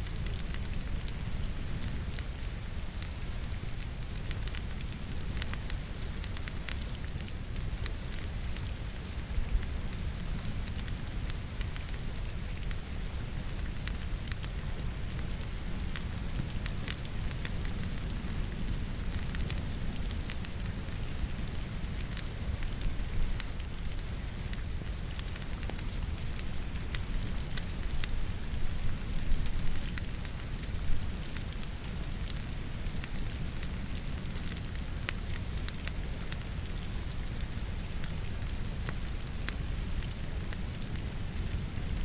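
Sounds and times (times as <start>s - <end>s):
rain falling: 0.0s - 42.0s
wood fire crackling and popping: 0.0s - 42.0s.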